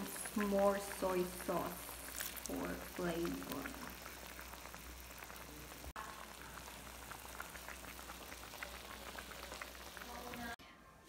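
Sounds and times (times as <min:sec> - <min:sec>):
sauce bubbling in a pan: 0:00.0 - 0:10.6.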